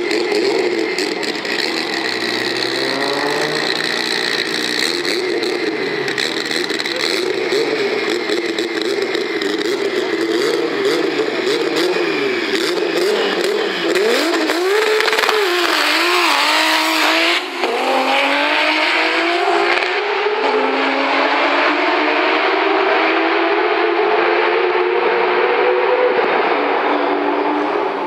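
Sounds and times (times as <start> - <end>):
turbocharged engine revving: 0.0 - 28.0.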